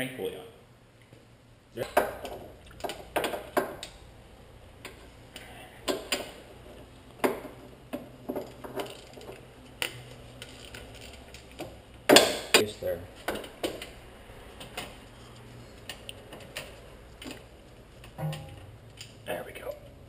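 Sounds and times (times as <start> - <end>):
low steady hum: 0.1 - 20.0.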